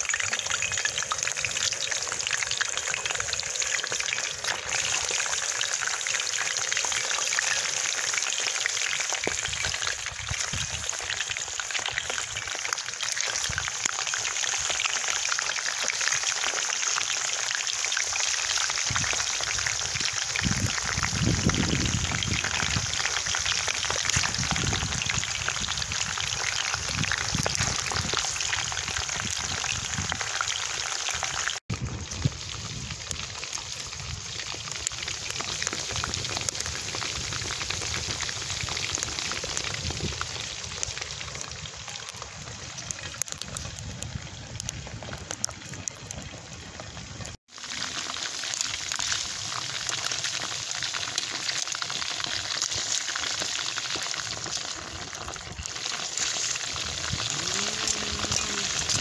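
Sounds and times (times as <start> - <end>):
hot oil sizzling and crackling: 0.0 - 59.0.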